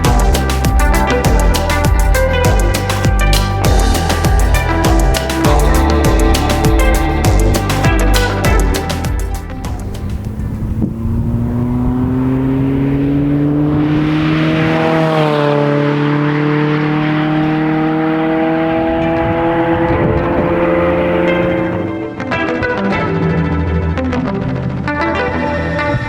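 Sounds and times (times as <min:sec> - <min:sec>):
car engine accelerating: 0:00.0 - 0:22.2.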